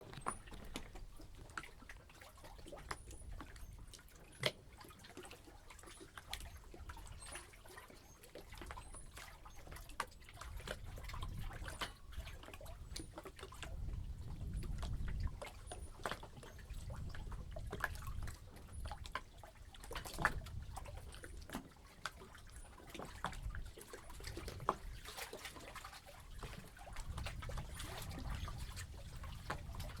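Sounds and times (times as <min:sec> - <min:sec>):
small splashes and clicks: 0:00.0 - 0:30.0
water lapping and slapping: 0:00.0 - 0:30.0.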